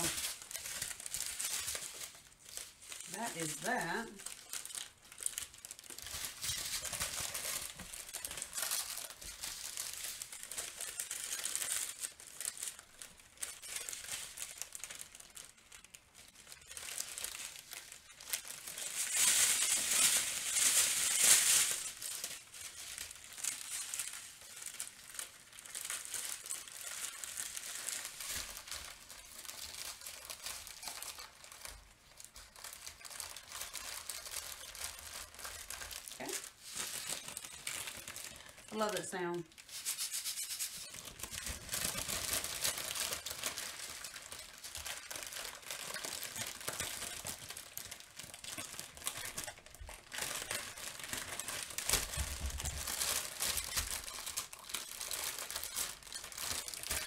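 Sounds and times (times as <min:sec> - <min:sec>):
plastic packaging crinkling: 0:00.0 - 0:57.0.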